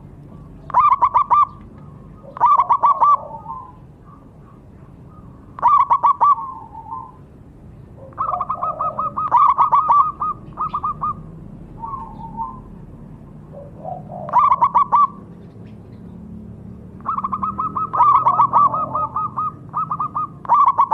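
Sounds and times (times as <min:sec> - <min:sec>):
dove cooing: 0:00.0 - 0:07.3, 0:07.9 - 0:16.0, 0:17.0 - 0:20.9.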